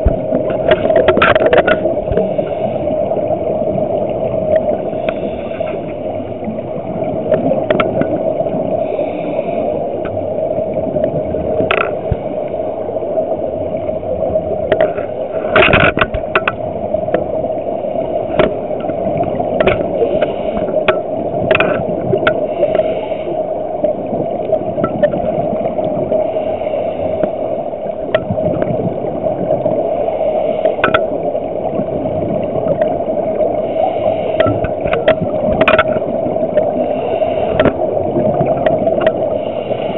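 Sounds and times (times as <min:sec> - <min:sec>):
steady underwater hum: 0:00.0 - 0:39.9.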